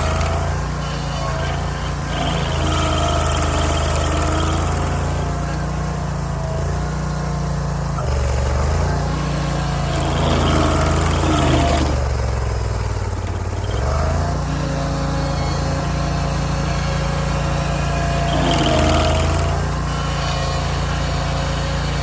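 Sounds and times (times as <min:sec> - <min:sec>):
stump grinder engine running: 0:00.0 - 0:22.0.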